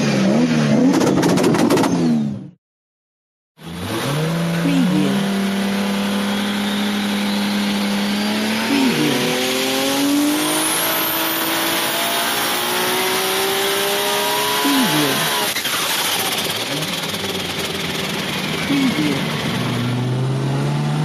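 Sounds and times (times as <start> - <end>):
race car engine accelerating: 3.6 - 21.0.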